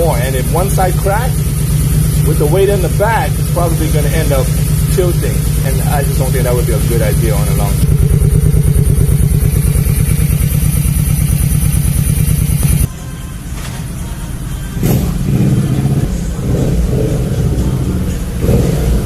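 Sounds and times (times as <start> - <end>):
motorcycle engine idling: 0.0 - 19.0
quieter engine sound: 0.0 - 19.0.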